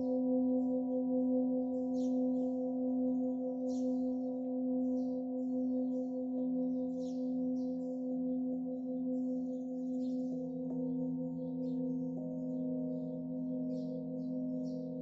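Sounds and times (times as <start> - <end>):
singing bowl ringing: 1.6 - 15.0
small birds chirping: 1.7 - 15.0.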